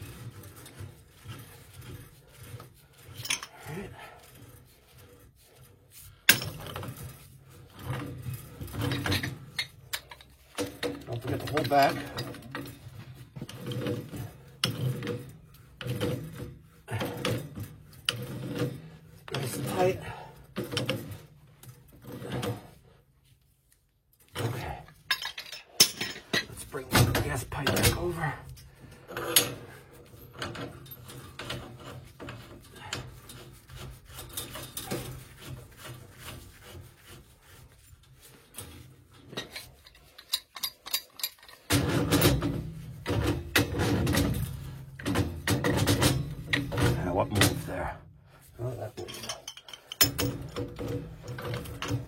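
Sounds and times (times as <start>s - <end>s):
metal grinding on metal: 0.0s - 23.0s, 24.4s - 52.0s
pipe wrench turning strokes: 0.0s - 23.4s, 24.2s - 47.8s.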